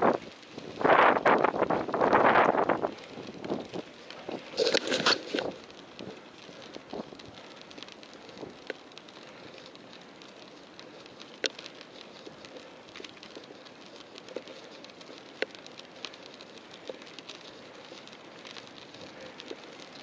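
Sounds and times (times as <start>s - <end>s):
bicycle tyres hissing: 0.0s - 20.0s
light ticks and rattles: 0.0s - 20.0s.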